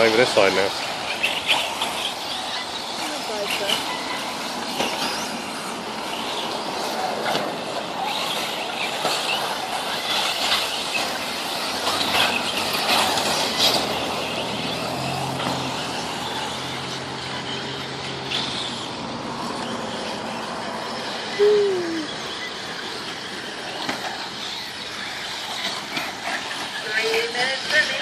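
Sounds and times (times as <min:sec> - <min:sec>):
tyres scrabbling on loose dirt: 0:00.0 - 0:21.2, 0:22.5 - 0:28.0.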